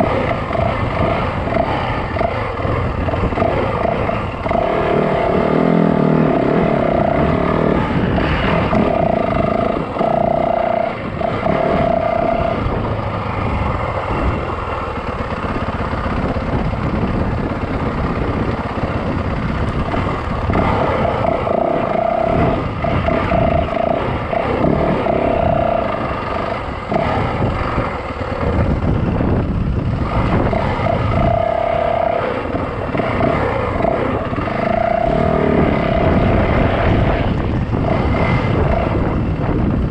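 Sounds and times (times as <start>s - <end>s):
dirt bike engine running: 0.0s - 39.9s
wind noise on microphone: 0.0s - 39.9s.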